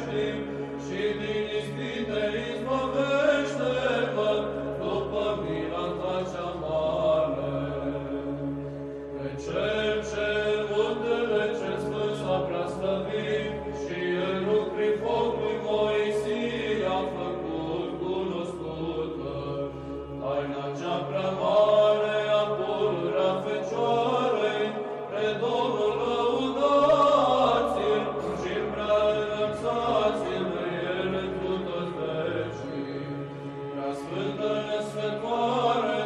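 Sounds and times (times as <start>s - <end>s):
church chant melody: 0.0s - 36.0s.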